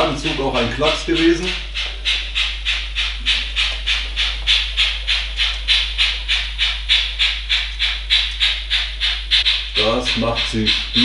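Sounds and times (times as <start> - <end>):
steam chuff from small loudspeaker: 0.0 - 11.0.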